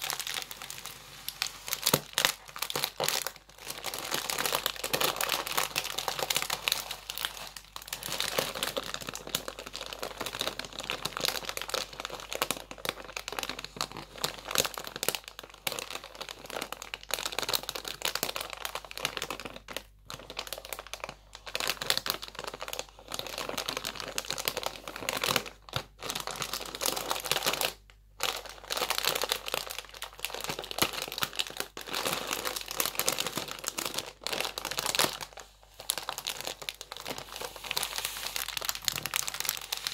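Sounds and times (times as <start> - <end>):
crisp packet crinkling: 0.0 - 39.9.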